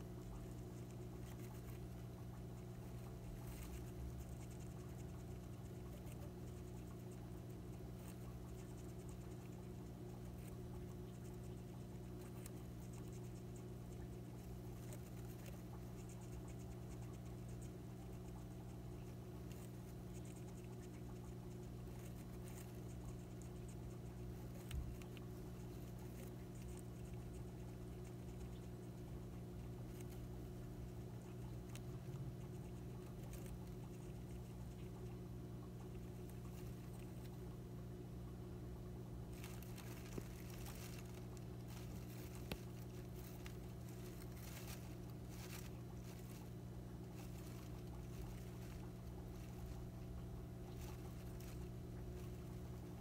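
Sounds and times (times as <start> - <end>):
hamster clicking and scratching: 0.0 - 37.6, 39.2 - 53.0
steady low hum: 0.0 - 53.0.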